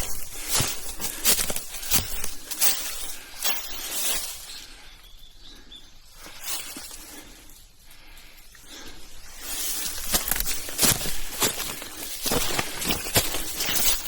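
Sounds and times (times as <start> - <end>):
footsteps crunching on trail: 0.0 - 4.9, 6.2 - 14.0.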